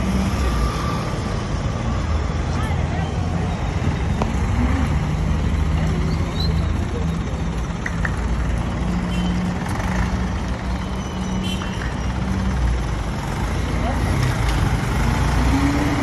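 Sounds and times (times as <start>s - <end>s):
bus engine running: 0.0s - 16.0s
street traffic: 0.0s - 16.0s.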